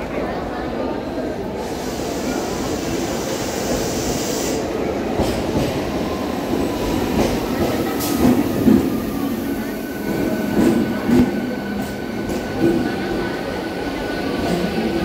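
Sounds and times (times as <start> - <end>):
train wheels rumbling on rails: 1.4 - 15.0.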